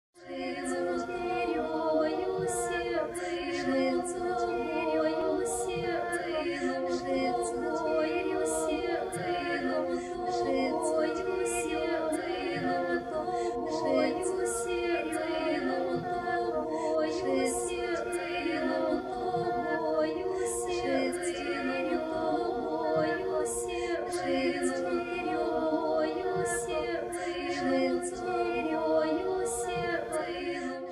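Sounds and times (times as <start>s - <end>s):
hissing consonant sounds: 0.2s - 30.9s
unaccompanied choir singing: 0.2s - 30.9s.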